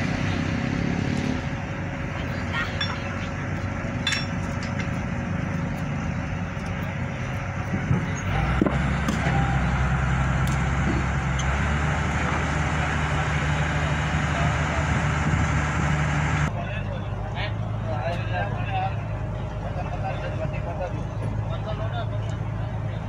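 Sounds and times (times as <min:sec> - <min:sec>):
crane engine running: 0:00.0 - 0:23.0.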